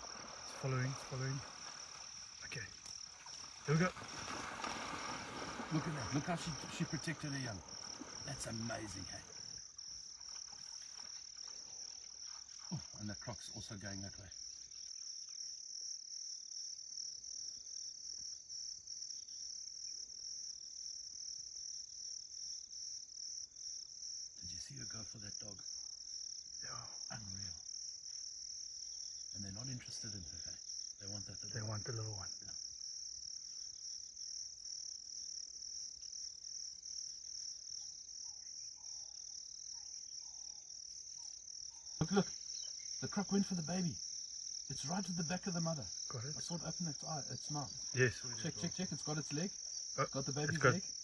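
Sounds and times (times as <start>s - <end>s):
crickets chirring: 0.0s - 51.0s.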